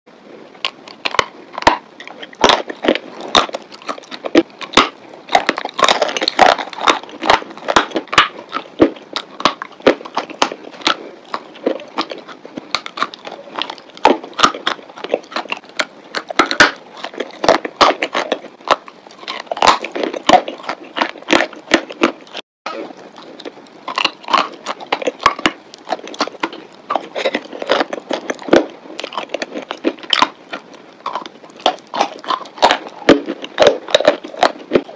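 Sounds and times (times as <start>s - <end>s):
chalk crackling while chewed: 0.4s - 34.9s.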